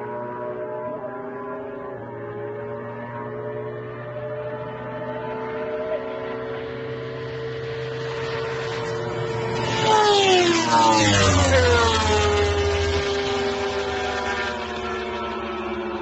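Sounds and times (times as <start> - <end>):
high-revving engine passing by: 0.0 - 16.0.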